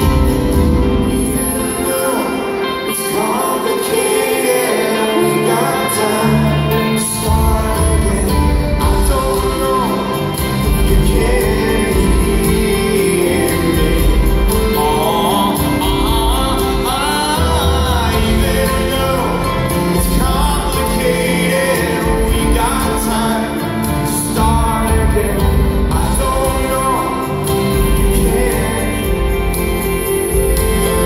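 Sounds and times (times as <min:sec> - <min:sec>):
bass: 0:00.0 - 0:01.5, 0:06.2 - 0:31.0
drums: 0:00.0 - 0:03.2, 0:06.3 - 0:31.0
guitars: 0:00.0 - 0:31.0
keyboard: 0:00.0 - 0:31.0
person singing: 0:00.0 - 0:31.0.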